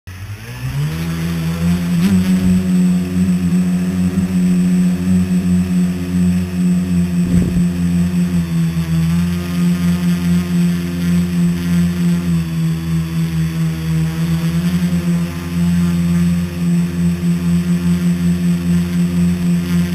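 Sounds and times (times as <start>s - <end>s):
drone motors buzzing: 0.1s - 19.9s.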